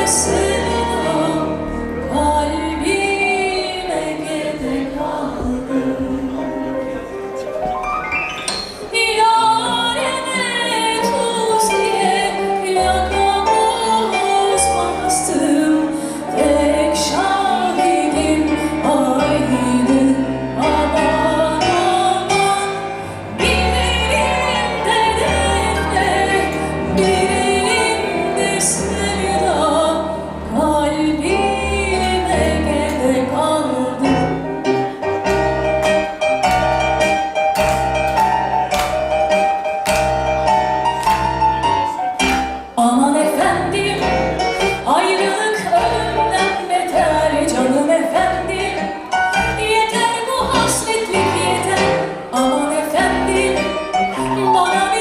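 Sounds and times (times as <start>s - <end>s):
woman singing: 0.0s - 6.6s, 8.9s - 34.7s, 42.7s - 55.0s
piano: 0.0s - 55.0s.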